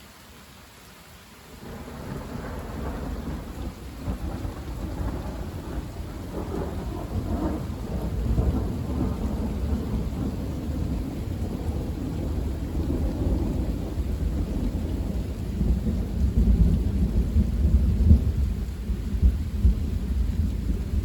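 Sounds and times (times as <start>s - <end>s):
steady rain: 0.0s - 21.0s
thunder rumbling: 1.6s - 21.0s.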